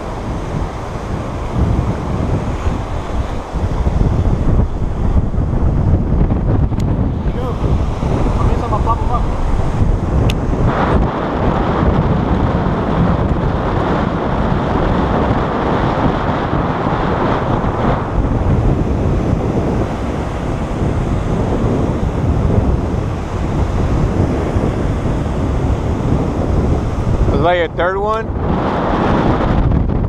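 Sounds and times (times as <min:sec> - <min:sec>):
surf breaking: 0:00.0 - 0:29.7
wind buffeting microphone: 0:00.0 - 0:30.0.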